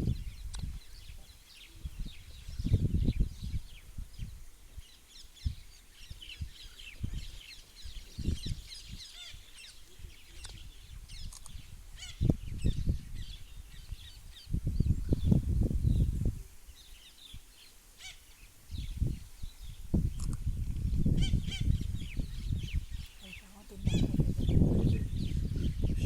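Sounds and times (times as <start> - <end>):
birds chirping: 0.1 - 26.0.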